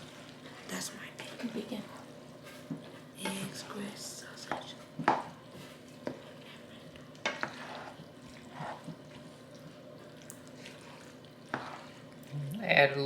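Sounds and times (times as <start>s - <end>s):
spoon stirring macaroni in a pan: 0.0s - 12.4s.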